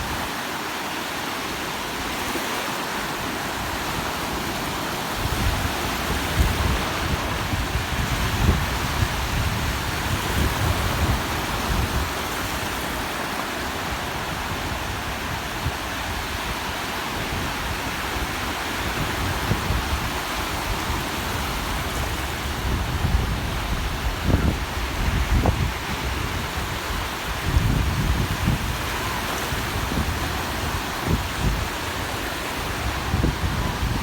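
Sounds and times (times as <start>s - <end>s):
surf washing on beach: 0.0s - 34.0s
wind buffeting microphone: 3.6s - 34.0s.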